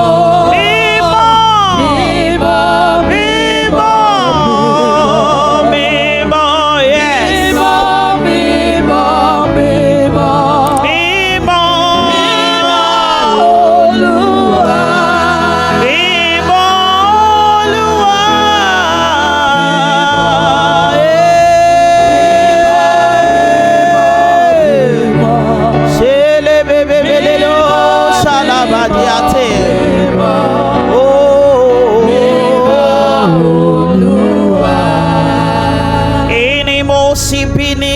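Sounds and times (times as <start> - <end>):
instrumental backing music: 0.0 - 37.9
person singing with vibrato: 0.0 - 37.9.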